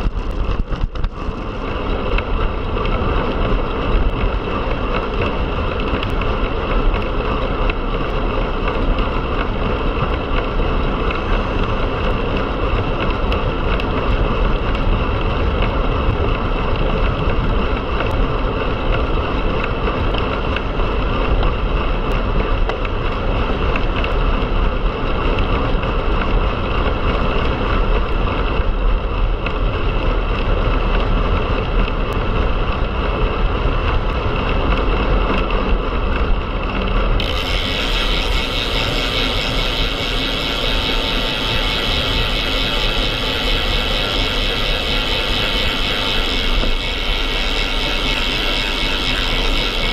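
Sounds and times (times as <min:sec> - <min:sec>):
bicycle tyre and road noise: 0:00.0 - 0:49.9
wind on microphone: 0:00.0 - 0:49.9.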